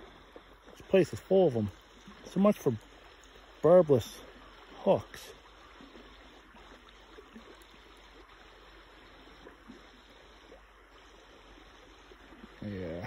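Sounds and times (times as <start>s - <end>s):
river water flowing and lapping: 0.0s - 13.0s.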